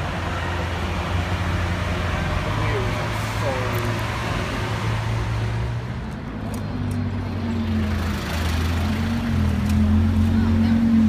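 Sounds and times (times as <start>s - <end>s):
car engines rumbling at low revs: 0.0s - 11.0s.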